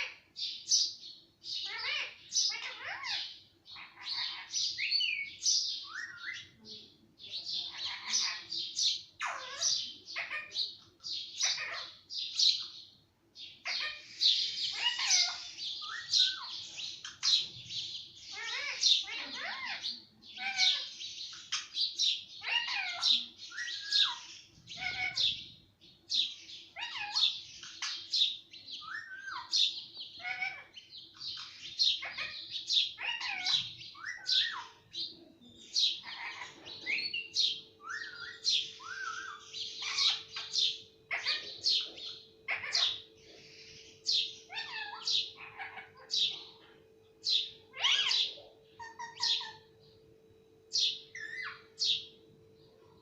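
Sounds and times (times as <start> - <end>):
parrot shrill chirps and squawks: 0.0 - 6.6, 7.6 - 12.8, 13.6 - 25.4, 26.2 - 35.0, 35.7 - 43.1, 44.1 - 46.6, 47.2 - 49.8, 50.9 - 52.1.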